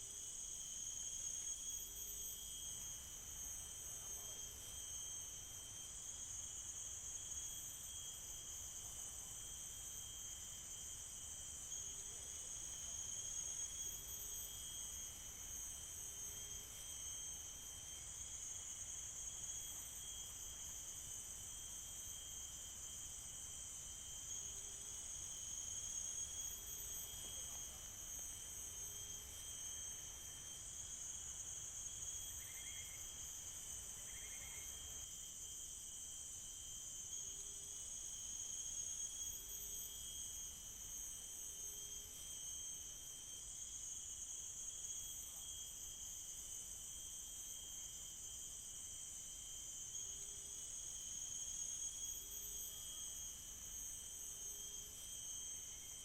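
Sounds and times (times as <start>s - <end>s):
forest insects chorus: 0.0s - 56.0s.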